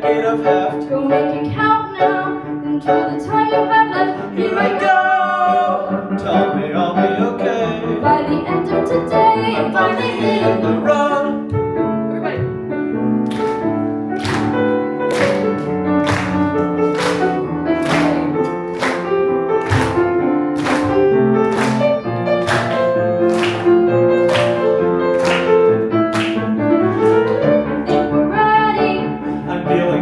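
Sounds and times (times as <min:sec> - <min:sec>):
piano playing repeated chords: 0:00.0 - 0:30.0.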